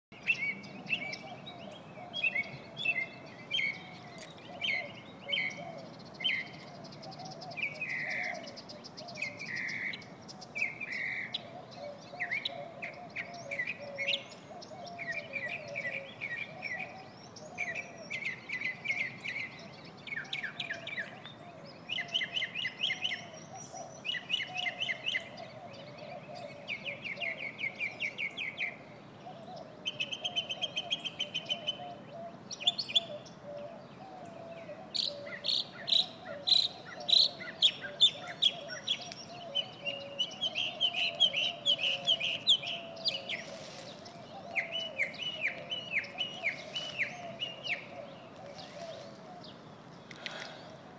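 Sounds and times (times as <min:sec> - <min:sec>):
mockingbird singing: 0:00.1 - 0:50.9.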